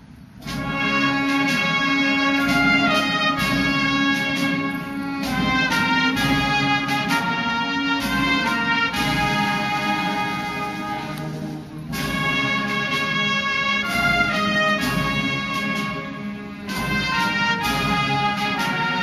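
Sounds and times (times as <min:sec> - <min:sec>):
drumbeats: 0:00.3 - 0:19.0
brass melody: 0:00.4 - 0:19.0.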